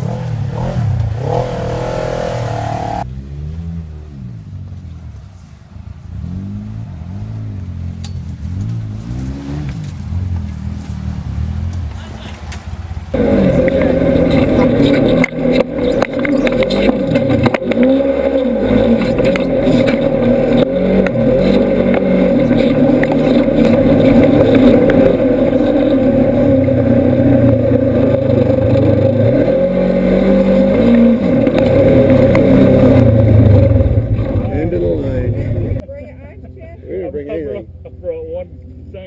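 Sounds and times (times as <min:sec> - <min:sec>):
side-by-side engine revving: 0:00.0 - 0:39.0.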